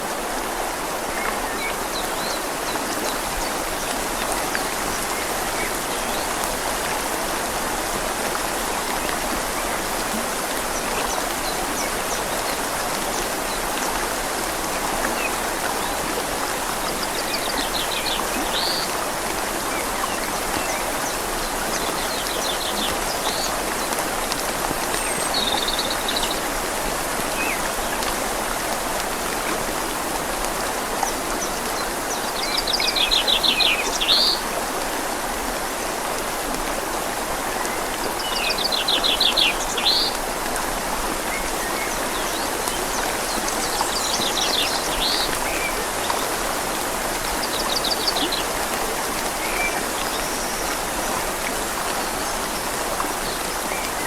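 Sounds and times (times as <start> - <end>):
rain falling on leaves: 0.0 - 54.0
river flowing: 0.0 - 54.0.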